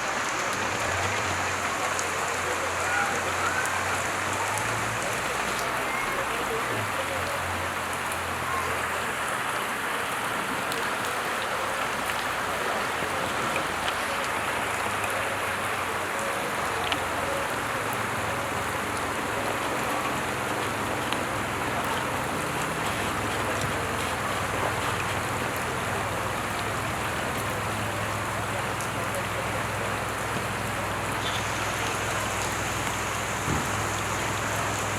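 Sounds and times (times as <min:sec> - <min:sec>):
heavy rain pattering: 0:00.0 - 0:34.9
low engine hum: 0:03.4 - 0:34.9.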